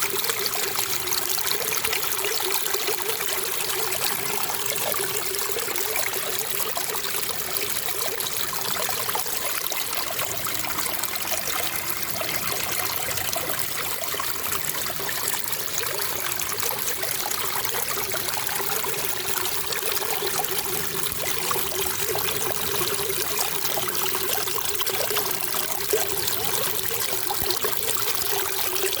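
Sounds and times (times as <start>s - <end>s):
running water trickling: 0.0s - 29.0s.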